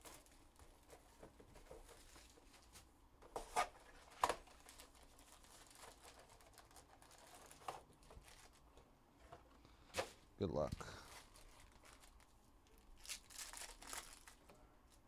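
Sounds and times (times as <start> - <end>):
cardboard and wrapper rustling: 0.0 - 9.4, 10.9 - 15.0.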